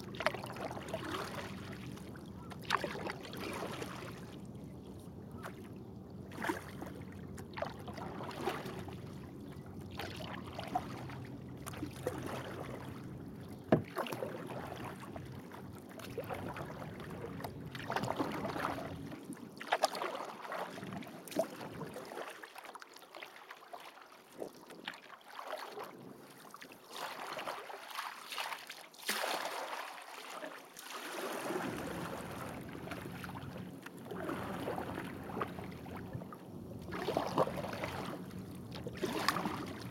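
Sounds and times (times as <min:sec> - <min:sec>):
water splashes and drips: 0:00.0 - 0:04.4, 0:06.3 - 0:09.2, 0:09.9 - 0:36.3, 0:36.9 - 0:39.9
kayak paddle strokes in water: 0:00.0 - 0:39.9.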